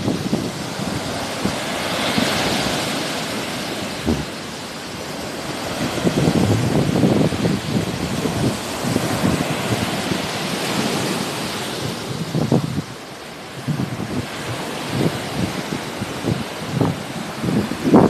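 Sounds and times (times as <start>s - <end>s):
sea surf washing ashore: 0.0s - 18.0s
wind buffeting microphone: 0.0s - 18.0s.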